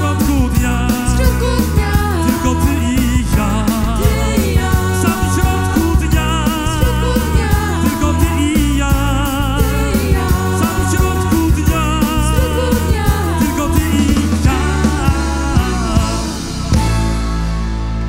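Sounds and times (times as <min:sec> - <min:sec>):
female vocal trio singing: 0:00.0 - 0:16.5
pop-rock band playing: 0:00.0 - 0:18.0.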